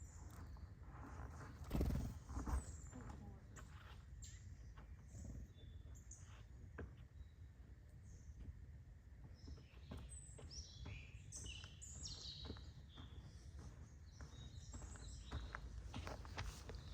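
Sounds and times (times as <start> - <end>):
small birds chirping: 0.0 - 8.6, 9.2 - 16.9.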